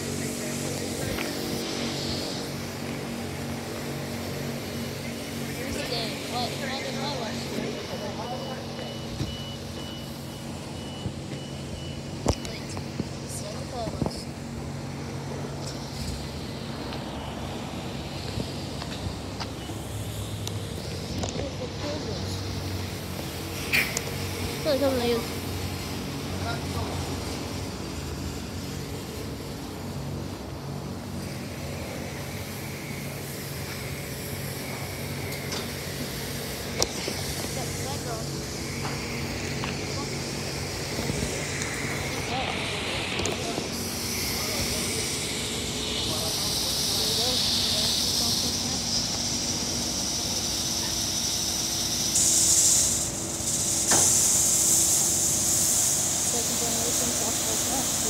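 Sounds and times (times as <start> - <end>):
car wash machinery hum: 0.0 - 58.0
noisy hiss: 0.0 - 58.0.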